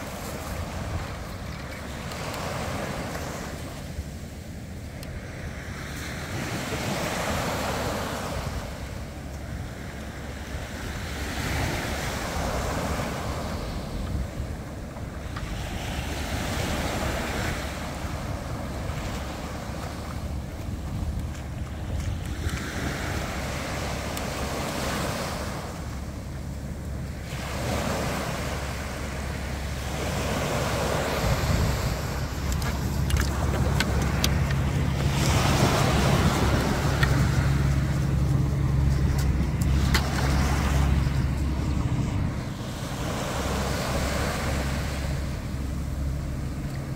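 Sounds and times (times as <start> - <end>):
boat engine hum: 0.0 - 46.9
waves washing on a beach: 0.0 - 46.9.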